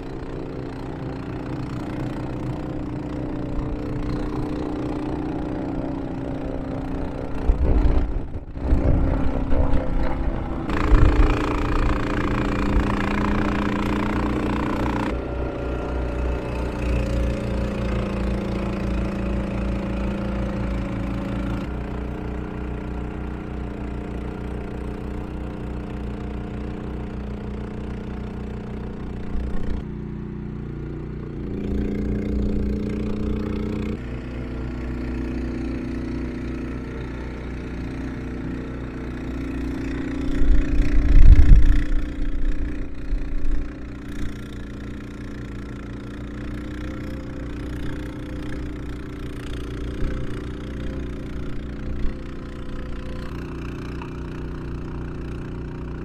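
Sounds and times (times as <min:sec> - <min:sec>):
snowblower engine running: 0:00.0 - 0:56.0.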